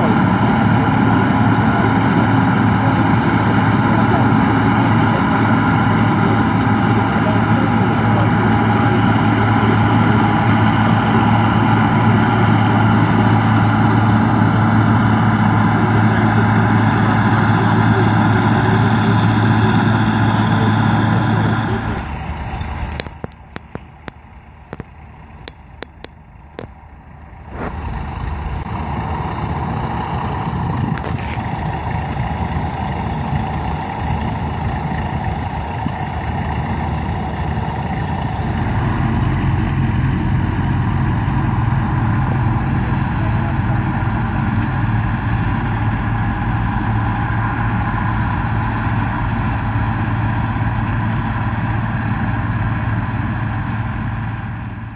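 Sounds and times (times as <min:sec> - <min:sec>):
combine harvester engine drone: 0:00.0 - 0:54.9.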